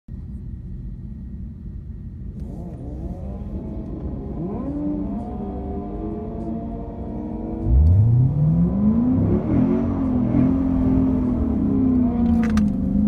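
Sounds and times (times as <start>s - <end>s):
car engines revving: 2.3s - 13.0s.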